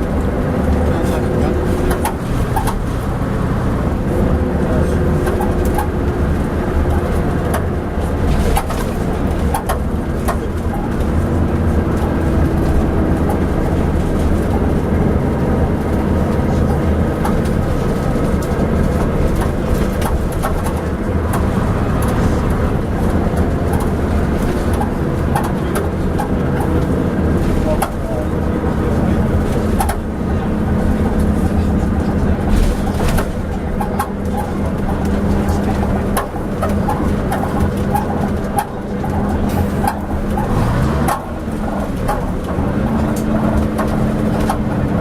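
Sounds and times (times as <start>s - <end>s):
bus clanks and rattles: 0.0s - 45.0s
bus engine running: 0.0s - 45.0s.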